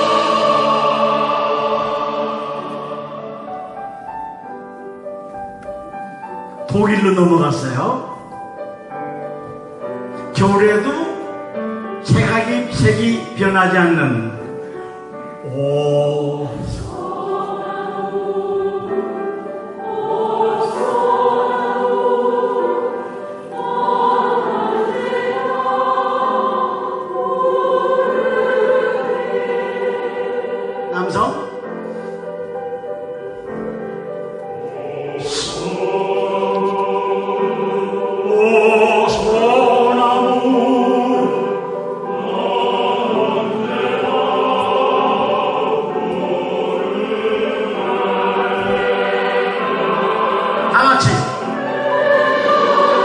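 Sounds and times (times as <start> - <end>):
choir singing in harmony: 0.0 - 53.0.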